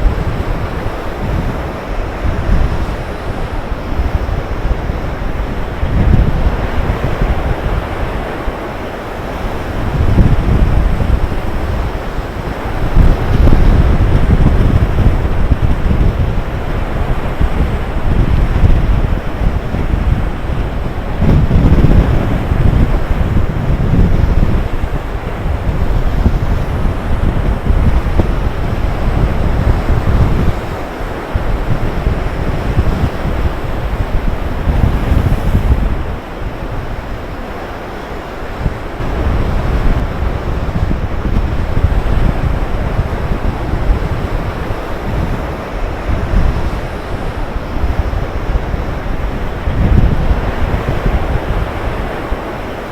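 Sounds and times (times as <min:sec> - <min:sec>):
heavy surf breaking: 0:00.0 - 0:52.9
wind buffeting microphone: 0:00.0 - 0:52.9.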